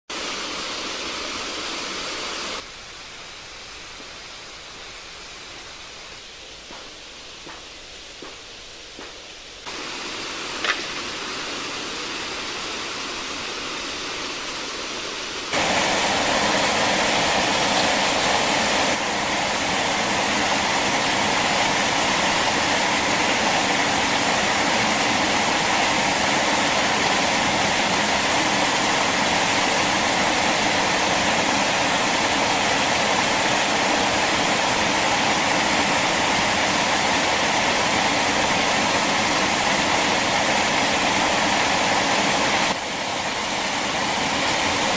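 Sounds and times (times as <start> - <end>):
rush of flowing water: 0.1 - 6.1, 9.6 - 44.9.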